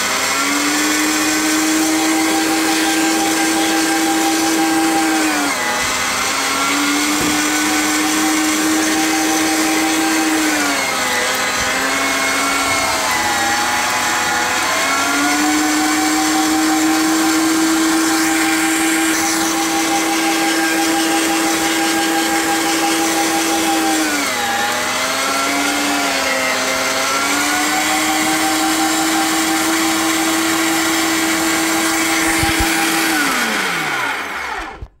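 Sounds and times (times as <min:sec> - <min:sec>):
electric meat grinder whining: 0:00.0 - 0:35.0.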